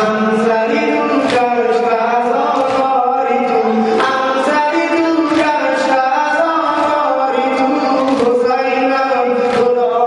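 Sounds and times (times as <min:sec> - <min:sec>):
man chanting a lament: 0:00.0 - 0:10.0.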